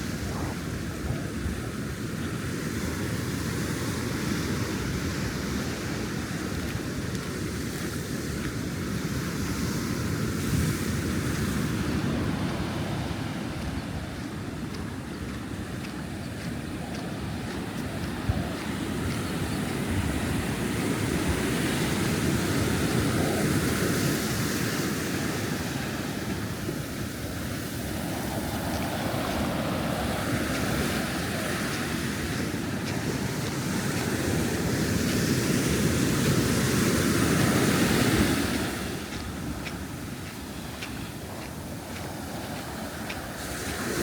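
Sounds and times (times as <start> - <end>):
ocean surf breaking on beach: 0.0 - 44.0
wind on microphone: 0.0 - 44.0.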